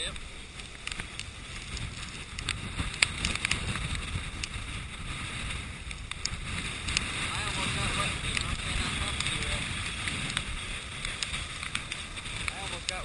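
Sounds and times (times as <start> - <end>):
storm surf against rock wall: 0.0 - 13.0
wind buffeting microphone: 0.0 - 13.0
sharp ticks and taps: 0.1 - 4.6, 5.8 - 7.1, 8.2 - 13.0.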